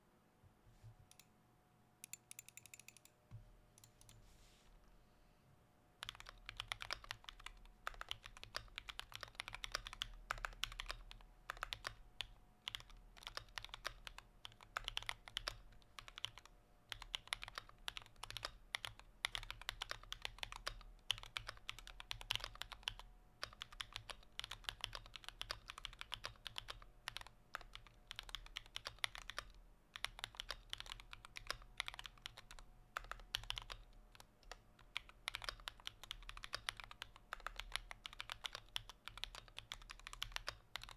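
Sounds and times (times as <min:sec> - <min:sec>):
computer keyboard typing: 0:02.0 - 0:03.2, 0:06.0 - 0:40.9.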